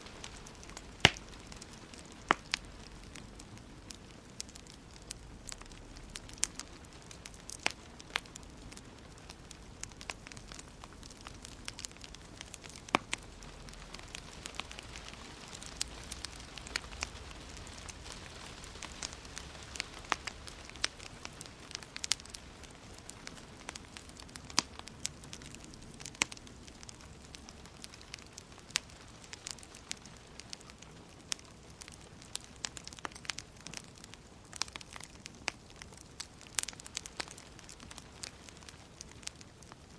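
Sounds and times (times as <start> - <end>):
hiss of burning logs: 0.0 - 39.9
wood fire crackling and popping: 0.0 - 39.9.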